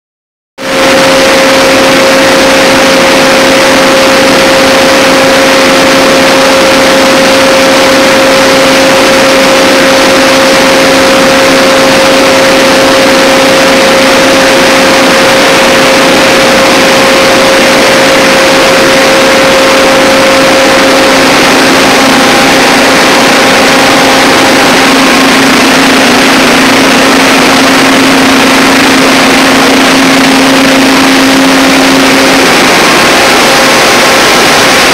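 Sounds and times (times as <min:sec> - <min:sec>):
diesel generator running: 0:00.6 - 0:34.9.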